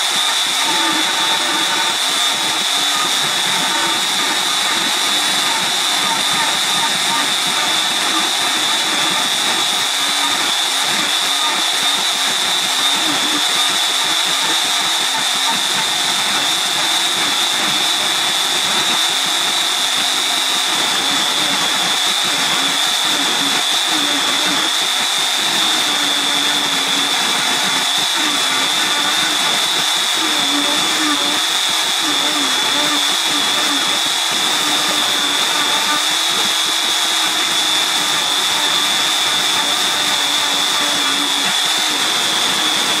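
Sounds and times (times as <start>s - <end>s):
router spindle whining: 0.0s - 43.0s.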